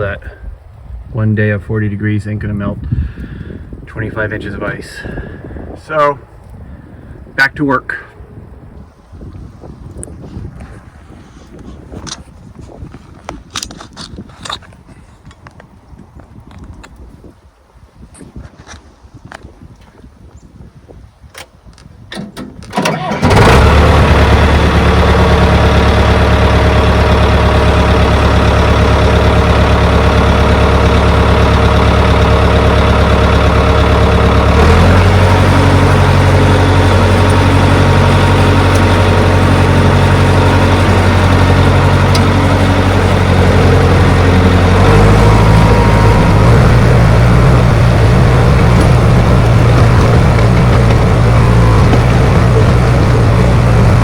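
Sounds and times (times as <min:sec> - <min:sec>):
bulldozer diesel engine running: 0:00.0 - 0:12.7, 0:22.7 - 0:54.0.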